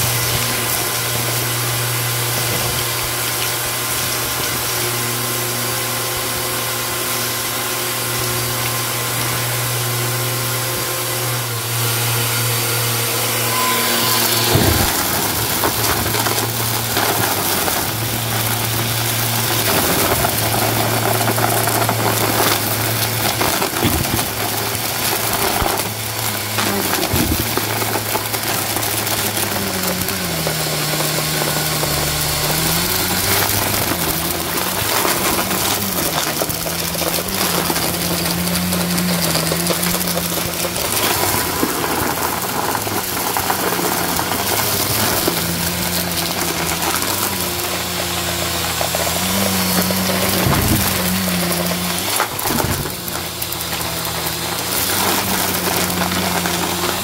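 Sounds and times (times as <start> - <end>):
debris crackle in vacuum: 0.0 - 57.0
vacuum cleaner motor hum: 0.0 - 57.0.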